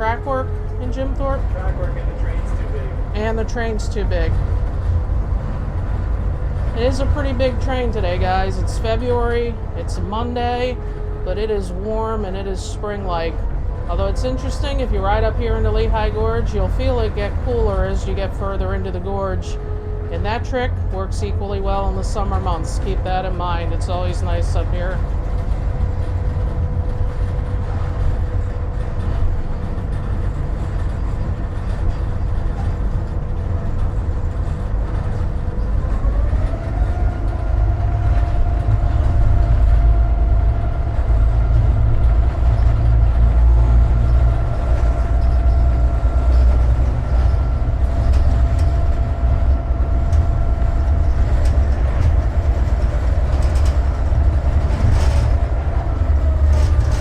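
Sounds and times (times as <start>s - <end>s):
diesel locomotive engine rumbling: 0.0s - 57.0s
steady engine whine: 0.0s - 57.0s.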